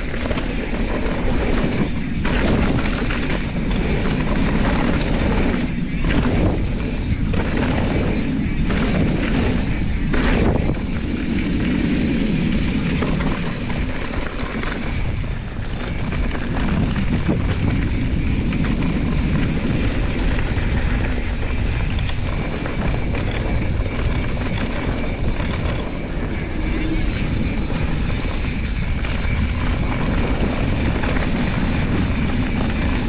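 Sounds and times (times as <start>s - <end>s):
mountain bike rolling on dirt trail: 0.0s - 33.0s
wind rumble on microphone: 0.0s - 33.0s.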